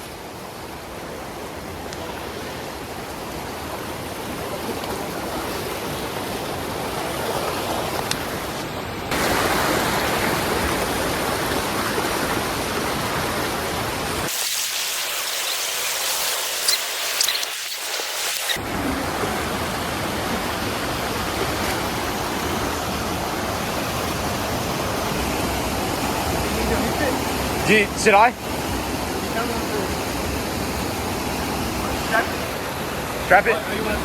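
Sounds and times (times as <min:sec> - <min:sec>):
waterfall rushing: 0:00.1 - 0:34.0.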